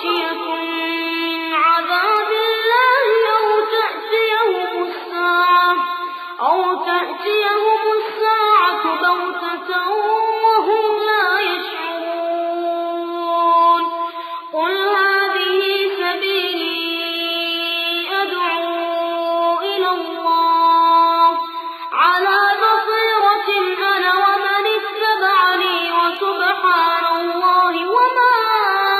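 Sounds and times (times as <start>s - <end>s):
person chanting recitation: 0.0s - 14.0s, 14.6s - 21.4s, 22.0s - 28.9s.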